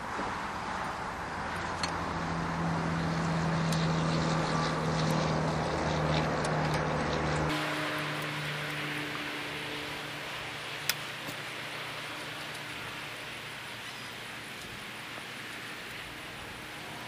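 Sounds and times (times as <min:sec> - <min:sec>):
steady rushing noise: 0:00.0 - 0:17.0
low hum: 0:01.1 - 0:17.0.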